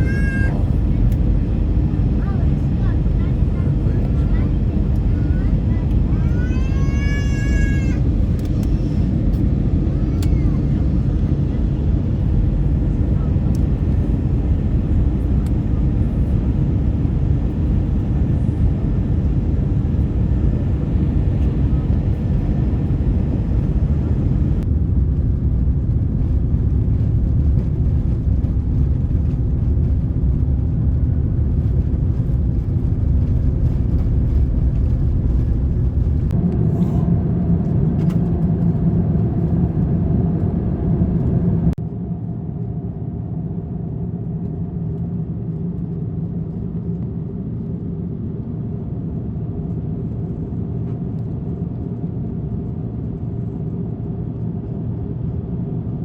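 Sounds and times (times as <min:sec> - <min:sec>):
airliner engine and airflow rumble: 0:00.0 - 0:56.0.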